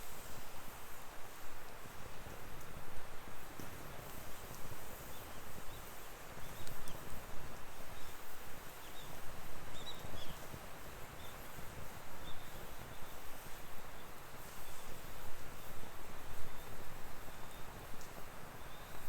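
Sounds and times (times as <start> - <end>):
firewood burning with hiss: 0.0 - 19.0.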